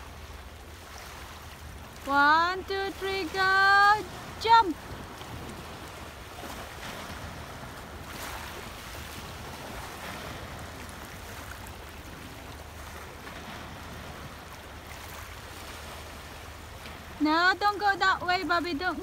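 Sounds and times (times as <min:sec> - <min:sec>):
sea waves breaking on rocks: 0:00.0 - 0:19.0.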